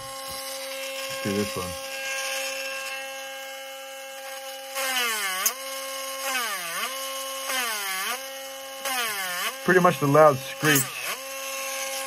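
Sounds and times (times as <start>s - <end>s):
rotary tool whining: 0.0s - 12.0s
screech of cutting wood: 0.0s - 12.0s.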